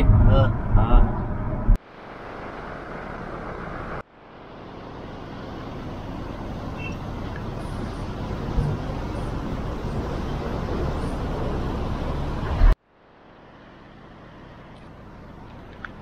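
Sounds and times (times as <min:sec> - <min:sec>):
road noise inside a car: 0:00.0 - 0:16.0
street traffic rumble: 0:00.0 - 0:16.0.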